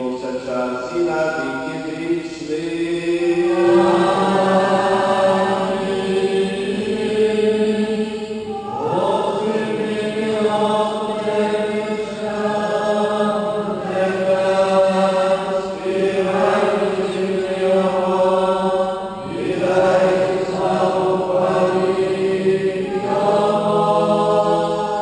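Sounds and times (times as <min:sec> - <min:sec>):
voices singing liturgical chant: 0:00.0 - 0:25.0.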